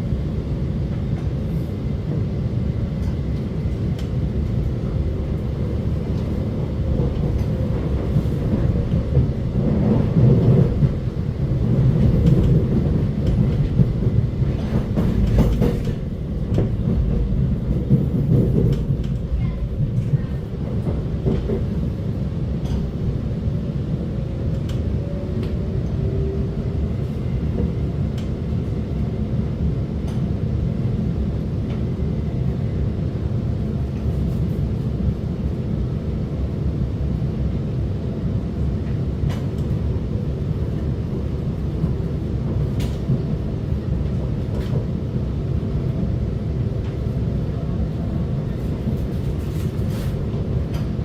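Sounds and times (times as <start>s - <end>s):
metro train rumble: 0.0s - 51.0s.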